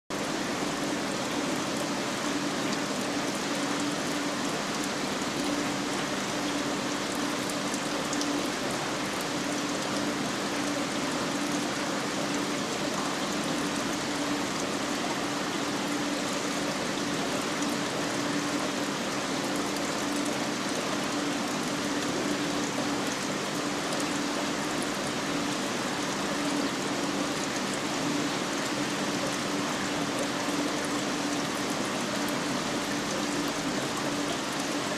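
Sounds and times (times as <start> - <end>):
low pump hum: 0.1 - 34.9
water rushing in aquarium: 0.1 - 34.9.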